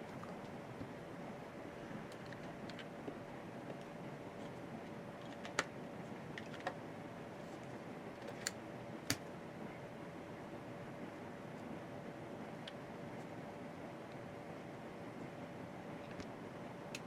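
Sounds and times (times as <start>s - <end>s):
faint hum: 0.0s - 17.0s
steady low hiss: 0.0s - 17.0s.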